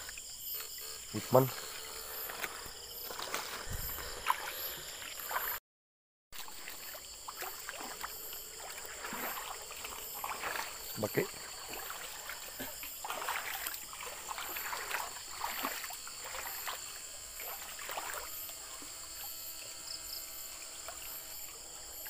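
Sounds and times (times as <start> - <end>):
faint high pulsing: 0.0 - 5.6, 6.6 - 22.0
splashing through shallow water: 0.0 - 5.6, 6.3 - 21.9.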